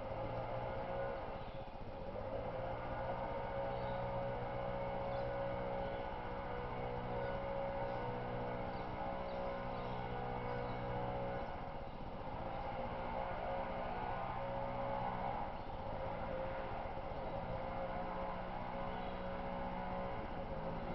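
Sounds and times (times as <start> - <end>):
motor running steadily: 0.0 - 20.9.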